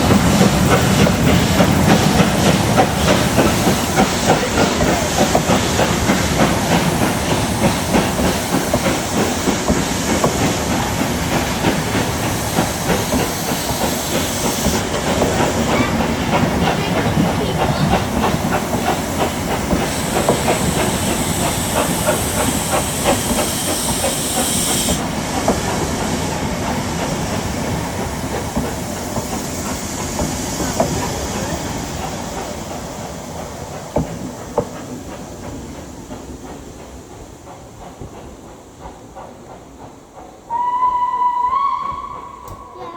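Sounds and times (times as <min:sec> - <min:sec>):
locomotive clatter: 0:00.0 - 0:40.5
steam hissing: 0:00.0 - 0:42.9.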